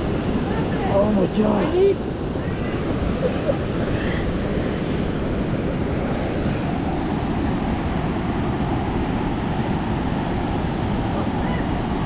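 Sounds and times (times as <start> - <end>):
fast-flowing river rushing: 0.0 - 12.0.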